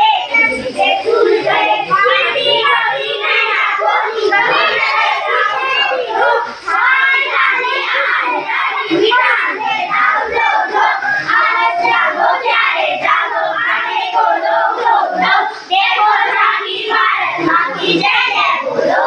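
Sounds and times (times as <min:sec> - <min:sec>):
children chanting in unison: 0:00.0 - 0:19.0.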